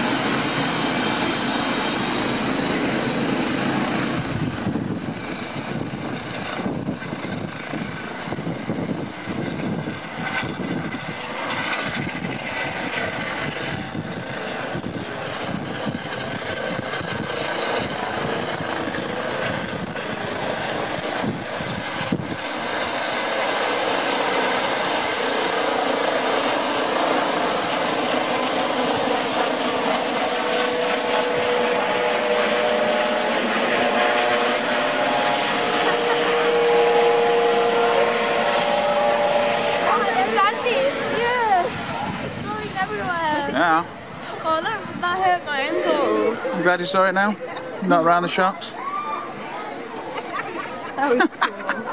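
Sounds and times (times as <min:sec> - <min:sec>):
rotor blades beating: 0:00.0 - 0:47.1
helicopter turbine whine: 0:00.0 - 0:51.9.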